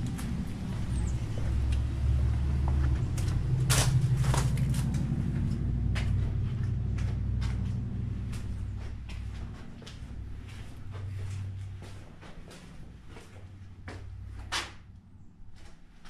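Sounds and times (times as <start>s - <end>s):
footsteps: 0.0s - 14.8s
steady low rumble: 0.0s - 16.0s.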